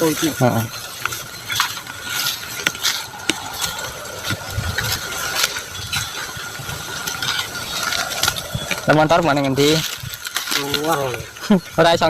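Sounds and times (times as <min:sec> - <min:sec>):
faint steady whine: 0:00.4 - 0:11.8.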